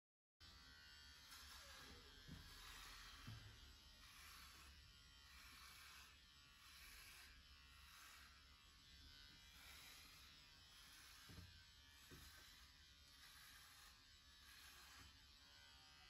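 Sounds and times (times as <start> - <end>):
electric pet clippers running: 0.4 - 16.0.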